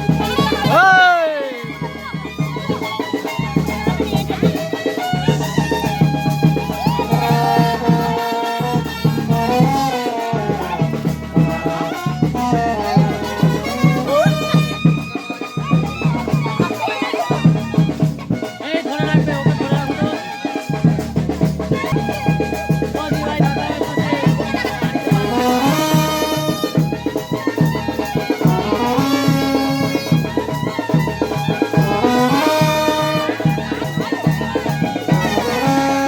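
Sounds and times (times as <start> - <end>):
steady drum beat: 0.0 - 36.0.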